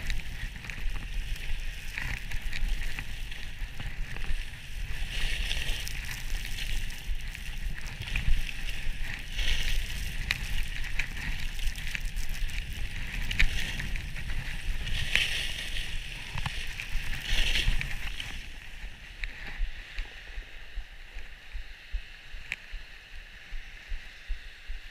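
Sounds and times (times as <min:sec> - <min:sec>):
skis scraping over snow: 0:00.0 - 0:21.5
wind rumbling on microphone: 0:00.0 - 0:24.9.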